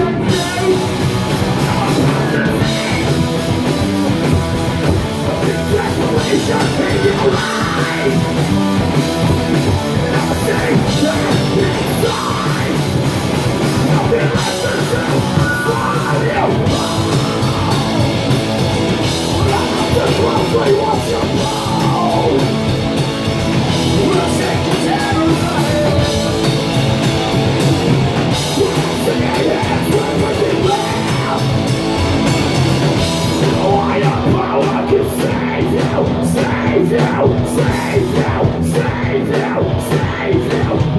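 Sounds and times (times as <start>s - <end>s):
person singing and shouting: 0.0s - 3.3s, 5.2s - 8.6s, 9.8s - 18.3s, 19.2s - 22.7s, 23.7s - 26.7s, 28.1s - 31.7s, 33.3s - 40.9s
bass guitar: 0.0s - 40.9s
distorted electric guitars: 0.0s - 40.9s
drum kit: 0.0s - 40.9s.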